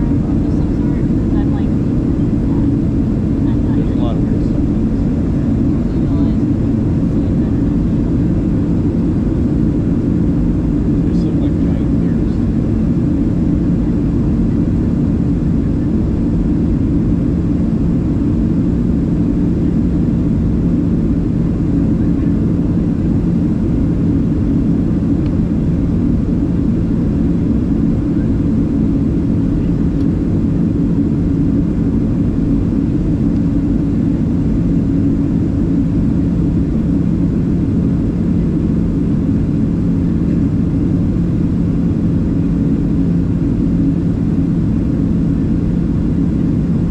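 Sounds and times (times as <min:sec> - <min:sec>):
airliner cabin drone: 0:00.0 - 0:46.9.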